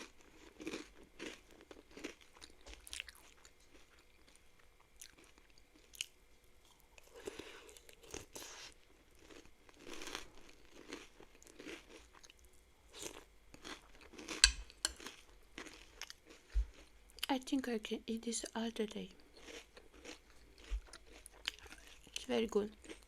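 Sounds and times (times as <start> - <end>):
crunchy cereal chewing: 0.0 - 16.9, 19.2 - 23.0.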